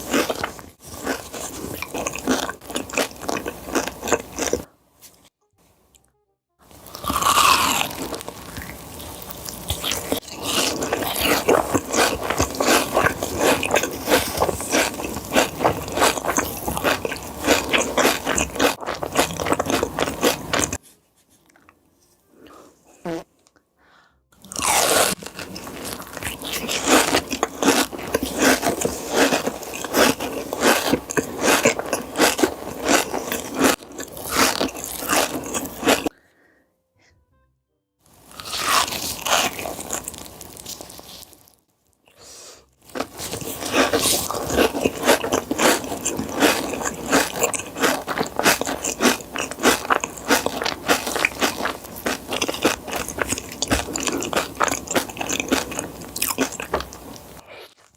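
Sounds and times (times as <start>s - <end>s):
person chewing crunchy food: 0.0s - 5.3s, 6.7s - 20.8s, 24.4s - 36.1s, 38.2s - 57.9s.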